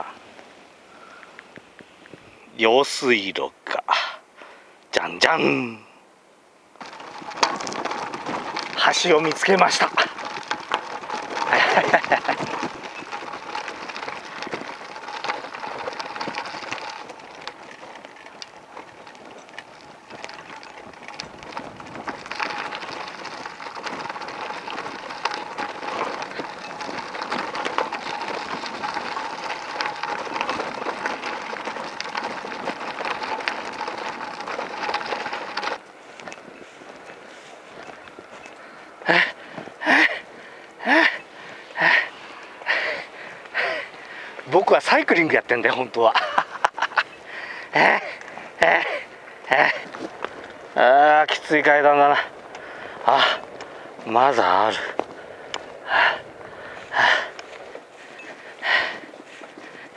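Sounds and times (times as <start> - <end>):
bicycle tyres on gravel: 0.0 - 59.9.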